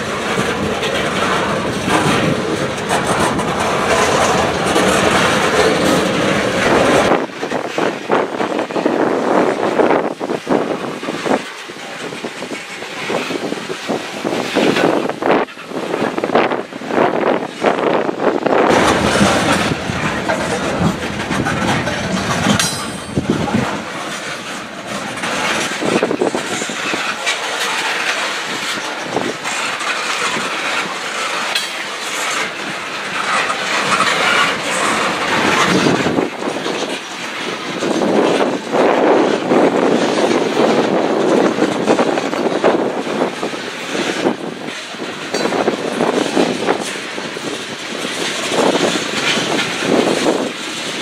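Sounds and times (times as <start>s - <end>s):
train wheels clattering over rails: 0.0s - 51.0s.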